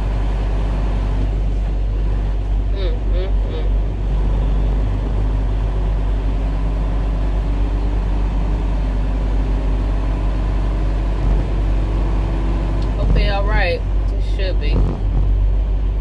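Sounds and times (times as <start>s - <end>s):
road noise: 0.0s - 16.0s
truck diesel engine hum: 0.0s - 16.0s.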